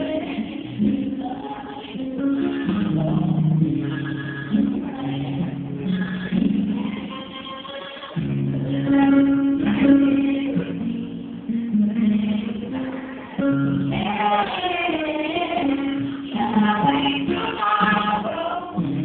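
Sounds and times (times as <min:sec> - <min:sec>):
voices singing slow song: 0:00.0 - 0:19.0.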